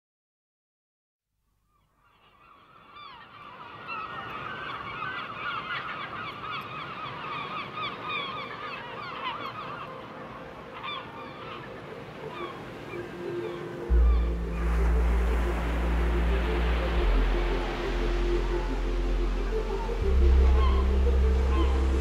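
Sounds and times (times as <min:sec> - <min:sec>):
flock of birds calling: 0:02.1 - 0:15.8, 0:16.5 - 0:22.0.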